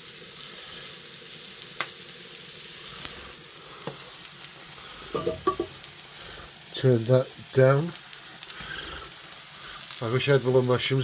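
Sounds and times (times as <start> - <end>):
food frying in a pan: 0.0 - 11.0.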